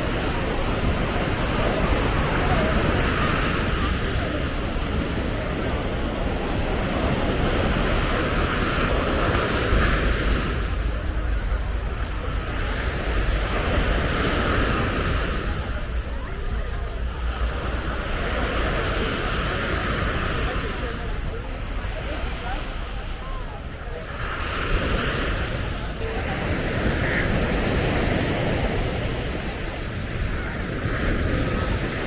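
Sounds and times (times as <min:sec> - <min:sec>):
sea waves breaking on beach: 0:00.0 - 0:32.0
wind rumble on microphone: 0:00.0 - 0:32.0.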